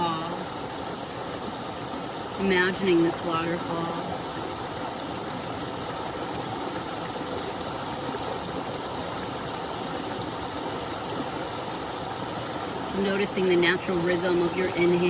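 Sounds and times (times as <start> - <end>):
waterfall cascading: 0.0 - 15.0.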